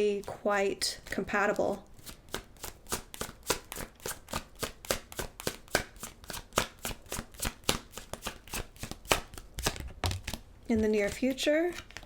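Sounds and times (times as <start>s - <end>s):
cards shuffling and clicking: 1.6s - 12.0s.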